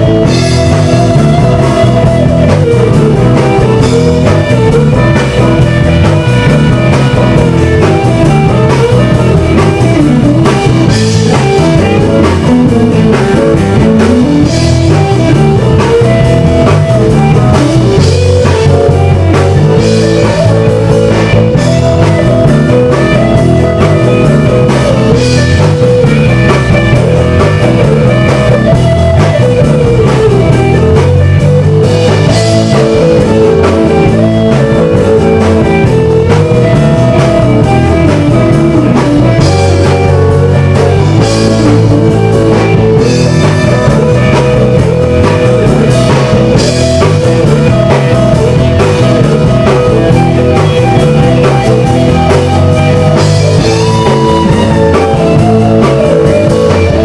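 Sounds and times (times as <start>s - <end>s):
loud rock song: 0.0s - 57.0s.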